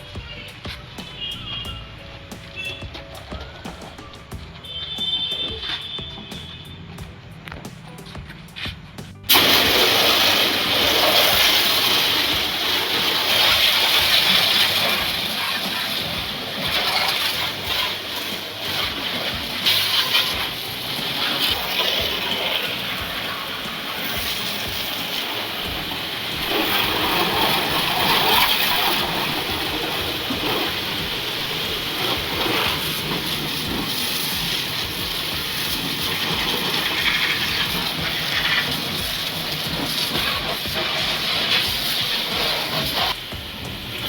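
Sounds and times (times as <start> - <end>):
pressure washer spraying water: 0.0 - 44.0.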